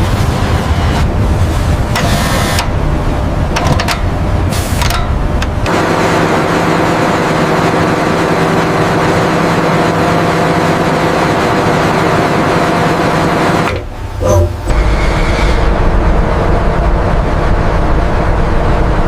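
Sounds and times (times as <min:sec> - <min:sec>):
industrial machinery humming: 0:00.0 - 0:19.0.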